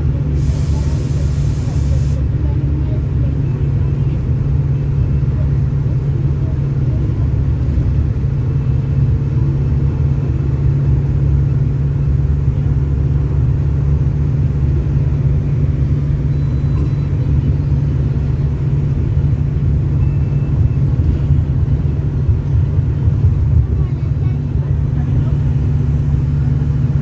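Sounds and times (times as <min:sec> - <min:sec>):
diesel engine drone: 0:00.0 - 0:27.0.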